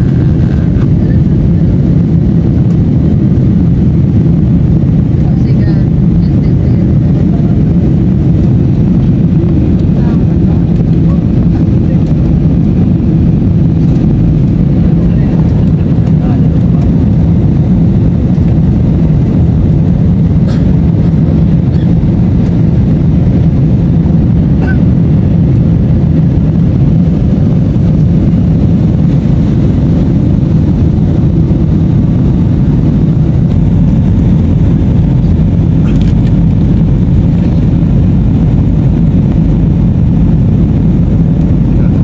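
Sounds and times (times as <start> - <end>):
airliner engine rumble: 0.0 - 42.0
constant hum: 0.0 - 42.0.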